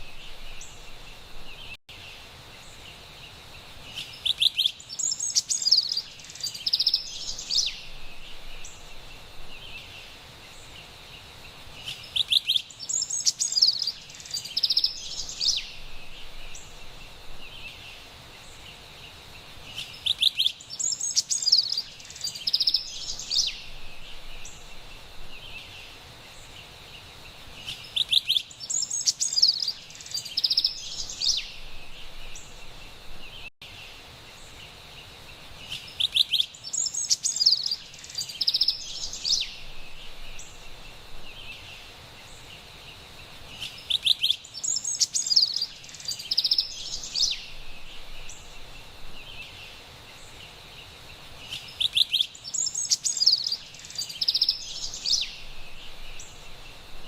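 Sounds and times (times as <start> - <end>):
faint background hiss: 0.0 - 57.0
wren singing: 3.8 - 18.8, 19.6 - 26.6, 27.6 - 34.8, 35.6 - 56.9.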